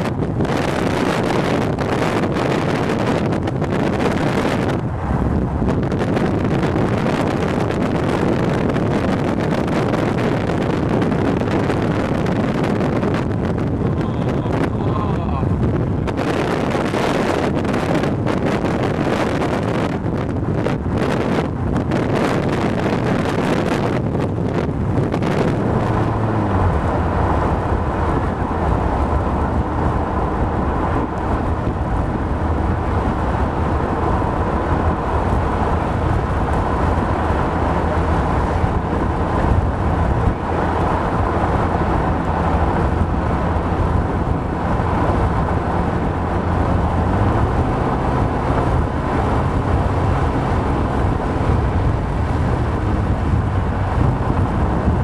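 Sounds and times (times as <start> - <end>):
car engine drone: 0.0 - 55.0
road noise: 0.0 - 55.0
wind buffeting microphone: 0.0 - 55.0.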